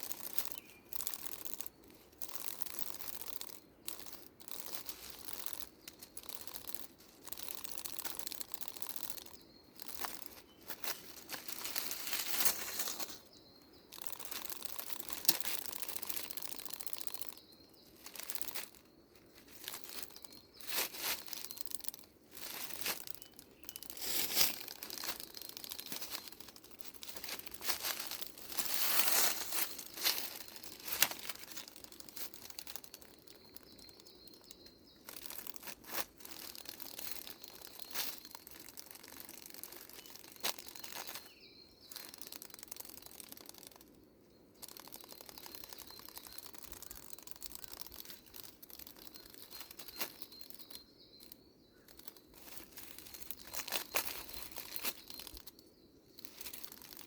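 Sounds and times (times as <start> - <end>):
dry leaves rustling and crackling: 0.0 - 43.9, 44.6 - 57.0.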